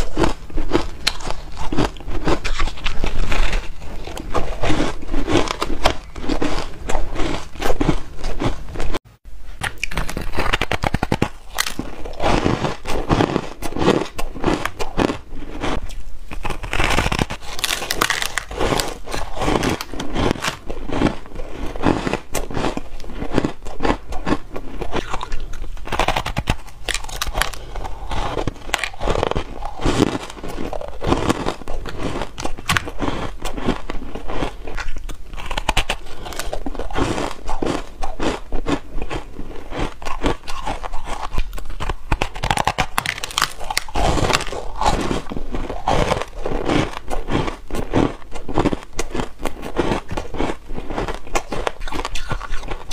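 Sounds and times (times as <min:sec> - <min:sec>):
chewing crunchy ice: 0:00.0 - 0:09.0, 0:09.6 - 0:52.9.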